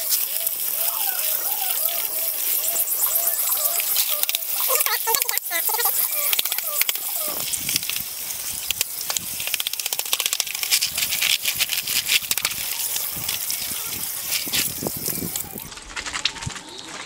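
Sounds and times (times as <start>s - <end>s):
water running and splashing: 0.0s - 15.7s
plastic keys clicking and rattling: 0.1s - 8.0s, 8.7s - 16.4s.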